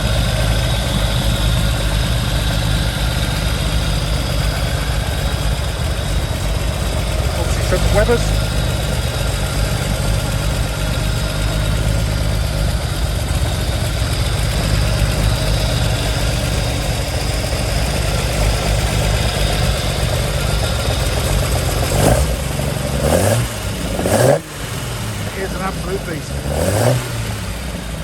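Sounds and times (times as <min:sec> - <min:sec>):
car engine idling unevenly: 0:00.0 - 0:28.0
engine revving: 0:00.0 - 0:28.0.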